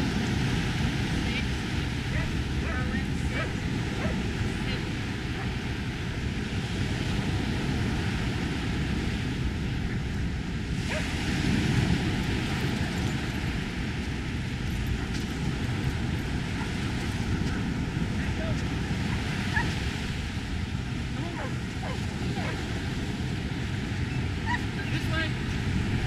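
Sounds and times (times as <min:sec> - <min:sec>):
low wind rumble on microphone: 0:00.0 - 0:26.0
ocean waves breaking on shore: 0:00.0 - 0:26.0.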